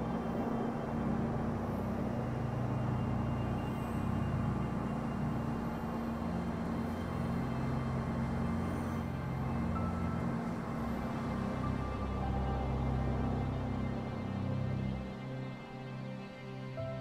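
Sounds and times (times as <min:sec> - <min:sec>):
low even drone: 0:00.0 - 0:17.0.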